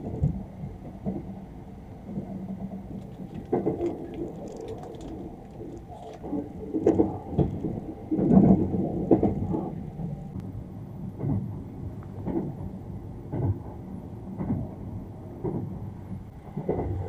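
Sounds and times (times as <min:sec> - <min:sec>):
train dull thumps and jolts: 0:00.0 - 0:10.4, 0:11.0 - 0:17.0
train low rumble: 0:00.0 - 0:17.0.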